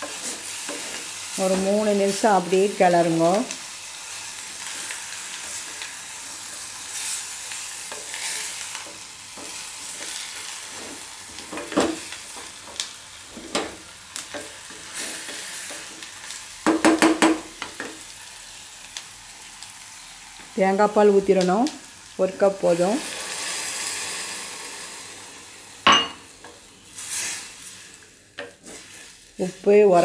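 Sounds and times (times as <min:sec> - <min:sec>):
chicken sizzling in a pot: 0:00.0 - 0:30.0.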